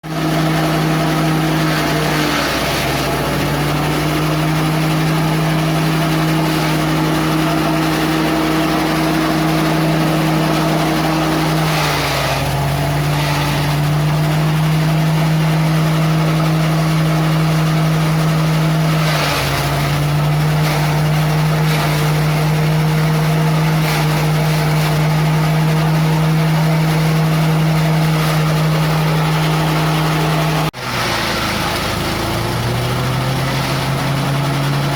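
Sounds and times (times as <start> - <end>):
chopper machine engine running: 0.0 - 34.9
shredding bursts: 0.0 - 34.9.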